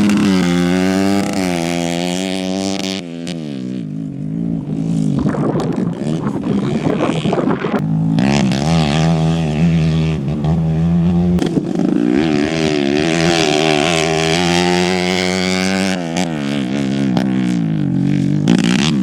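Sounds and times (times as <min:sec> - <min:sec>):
off-road motorcycle engine revving: 0:00.0 - 0:19.0.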